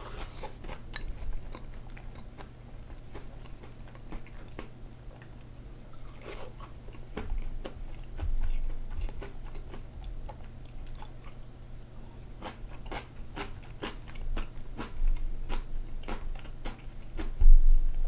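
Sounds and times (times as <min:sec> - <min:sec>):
person chewing noodles: 0:00.0 - 0:11.5, 0:12.3 - 0:17.4
steady low hum: 0:00.0 - 0:18.0.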